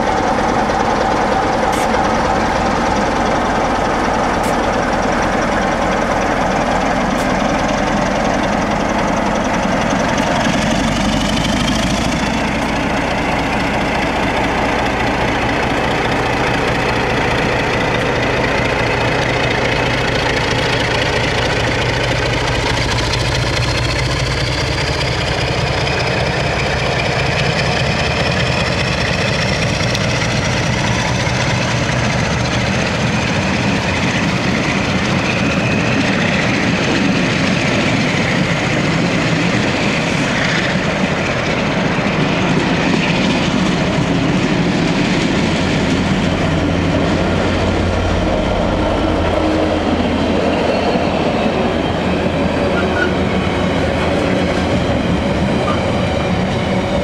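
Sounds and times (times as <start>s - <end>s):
diesel locomotive engine: 0.0s - 57.0s
second diesel locomotive: 0.0s - 57.0s.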